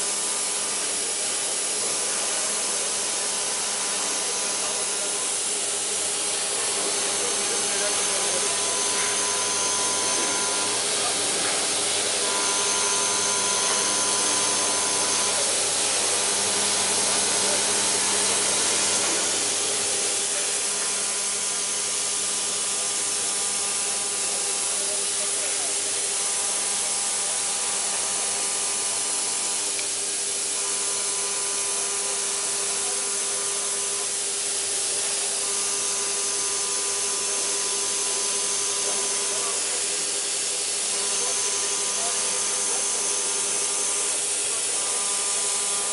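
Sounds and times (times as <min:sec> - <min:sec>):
milling machine hiss: 0:00.0 - 0:45.9.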